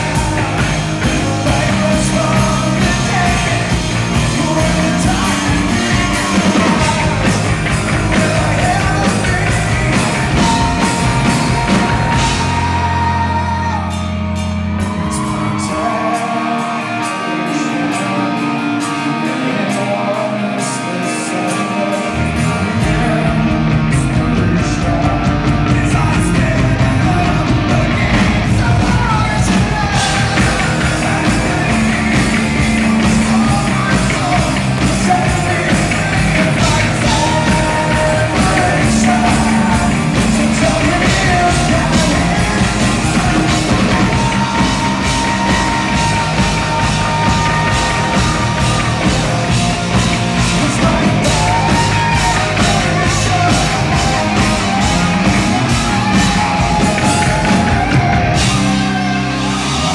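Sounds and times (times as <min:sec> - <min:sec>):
man singing: 0:00.0 - 0:14.2, 0:14.8 - 0:59.9
live rock band: 0:00.0 - 0:59.9.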